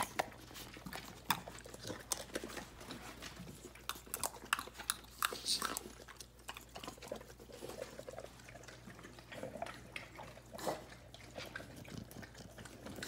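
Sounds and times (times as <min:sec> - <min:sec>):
dogs licking and lip smacking: 0:00.0 - 0:13.0.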